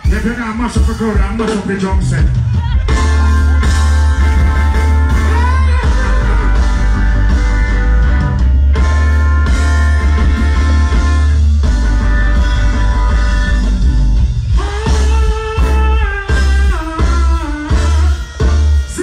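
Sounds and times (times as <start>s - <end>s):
heavy bass line: 0.0s - 19.0s
live reggae band playing: 0.0s - 19.0s.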